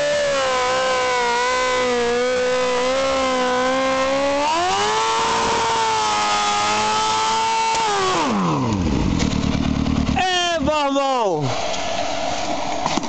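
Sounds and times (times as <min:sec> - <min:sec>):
motorcycle engine revving high: 0:00.0 - 0:11.7.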